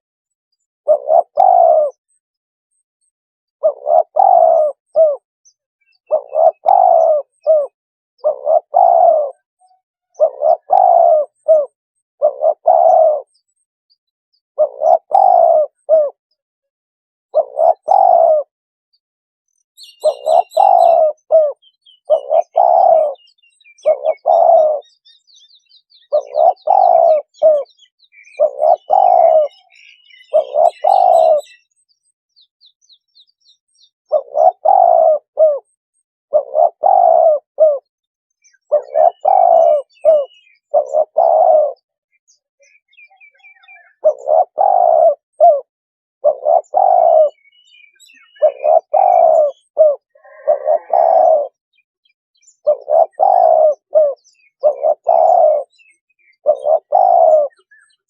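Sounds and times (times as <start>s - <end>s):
small birds chirping: 0.3s - 16.4s, 17.3s - 58.0s
dove cooing: 0.6s - 2.0s, 3.6s - 5.2s, 5.9s - 13.5s, 14.6s - 16.4s, 17.3s - 18.5s, 19.8s - 25.3s, 25.9s - 31.8s, 34.1s - 51.8s, 52.4s - 58.0s.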